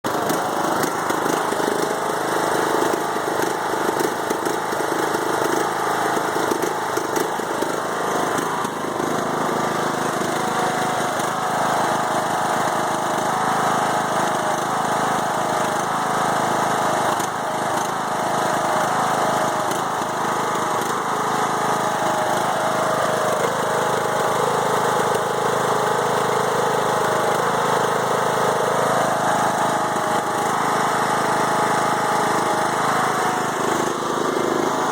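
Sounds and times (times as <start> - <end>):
mower engine idling roughly: 0.0 - 34.9.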